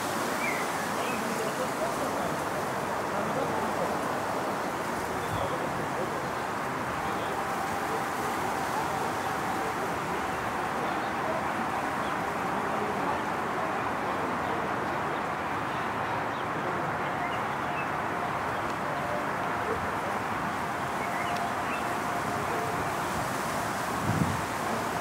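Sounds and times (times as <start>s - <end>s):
hiss-like outdoor din: 0.0s - 25.0s.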